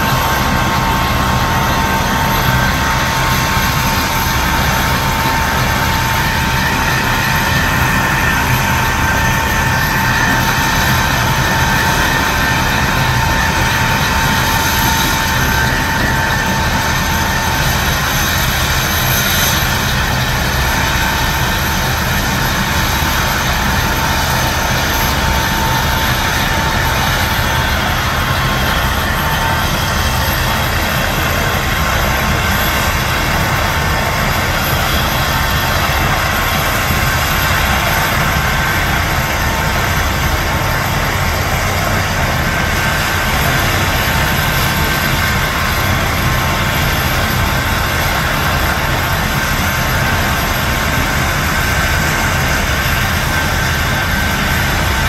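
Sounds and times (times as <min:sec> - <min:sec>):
helicopter turbine whine and rumble: 0:00.0 - 0:55.0.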